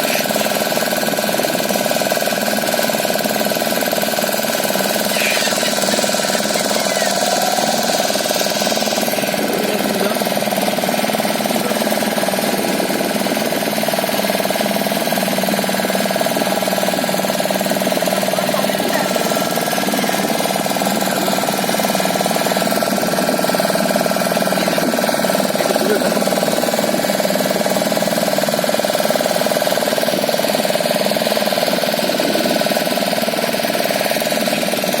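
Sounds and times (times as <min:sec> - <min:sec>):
motorboat engine running: 0:00.0 - 0:35.0.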